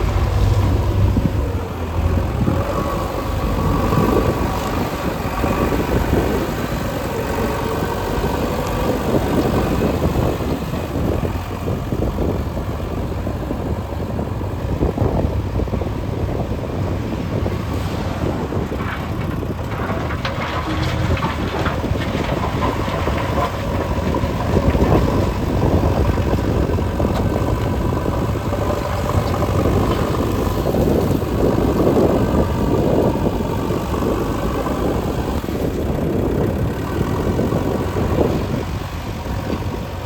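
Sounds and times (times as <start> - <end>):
diesel machinery running: 0.0 - 40.0.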